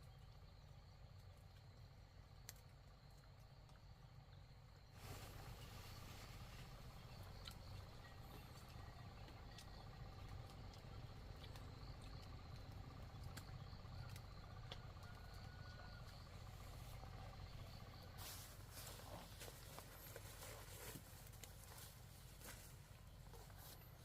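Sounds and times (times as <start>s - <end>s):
insect drone: 0.0s - 24.0s.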